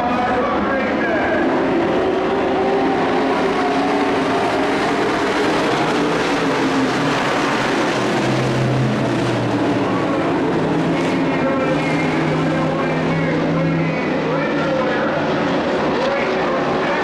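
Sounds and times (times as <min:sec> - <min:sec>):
truck engines droning: 0:00.0 - 0:17.0.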